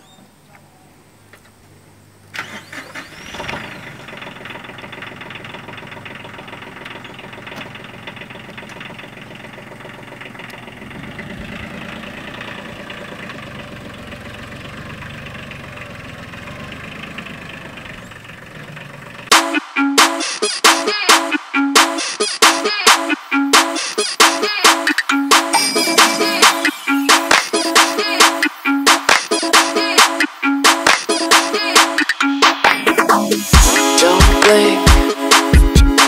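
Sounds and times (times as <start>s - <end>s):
tractor engine starting and running: 1.3s - 20.8s, 23.5s - 36.0s.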